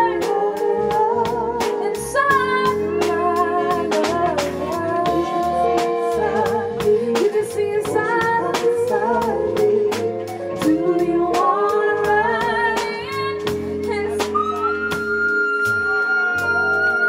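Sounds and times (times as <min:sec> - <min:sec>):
woman singing: 0:00.0 - 0:15.9
drum kit cymbals: 0:00.0 - 0:16.7
keyboard: 0:00.0 - 0:17.0.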